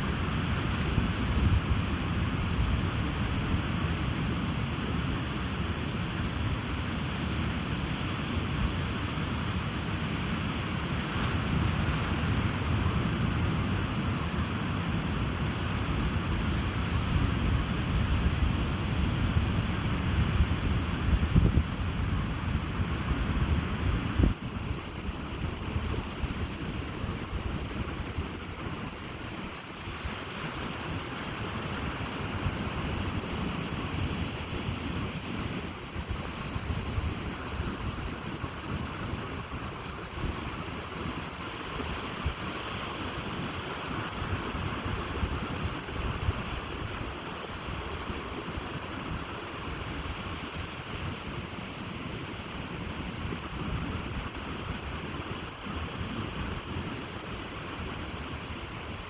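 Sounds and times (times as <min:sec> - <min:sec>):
ocean surf roaring: 0:00.0 - 0:59.0
wind on microphone: 0:00.0 - 0:59.0.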